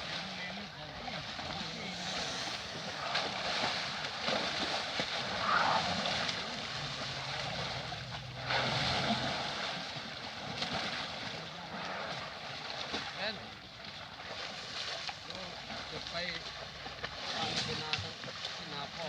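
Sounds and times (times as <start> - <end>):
water splashing and rushing: 0.0 - 19.0.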